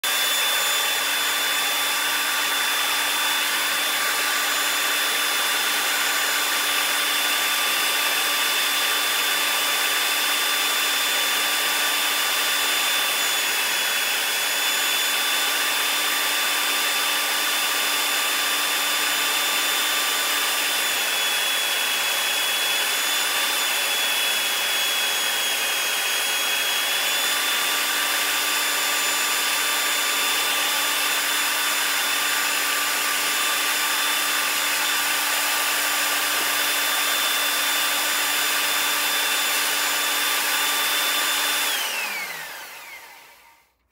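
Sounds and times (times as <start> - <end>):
belt sander whining: 0.0 - 43.8.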